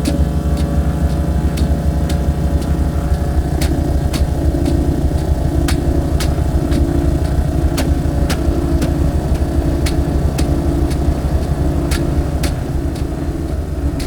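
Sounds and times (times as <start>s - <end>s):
distorted low rumble: 0.0s - 14.0s
pulsing mid-range drone: 0.0s - 14.0s.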